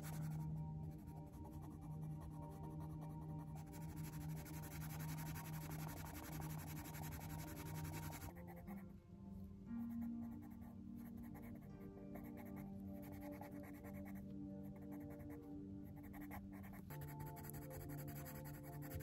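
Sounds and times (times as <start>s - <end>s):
coloured pencil scratching on paper: 0.0s - 8.8s, 12.2s - 19.0s
soft background music: 0.0s - 19.0s.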